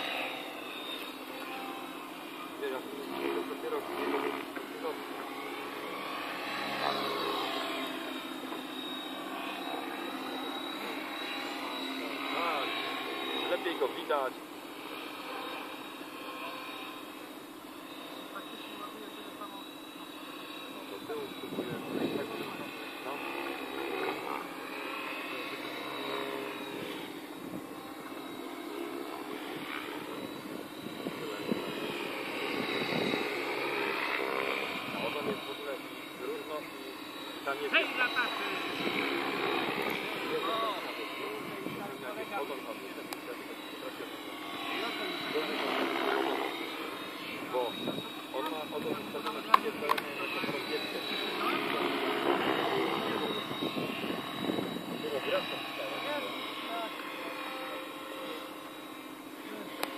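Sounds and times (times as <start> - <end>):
rc helicopter motor whine: 0.0 - 59.9.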